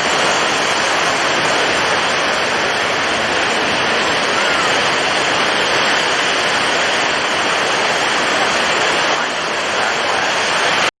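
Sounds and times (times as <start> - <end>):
heavy surf: 0.0 - 10.9
strong wind: 0.0 - 10.9.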